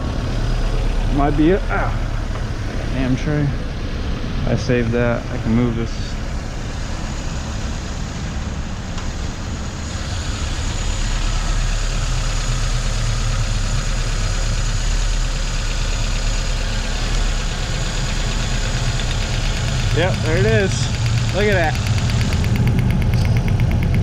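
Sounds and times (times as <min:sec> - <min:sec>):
car engine idling with misfire: 0:00.0 - 0:24.0.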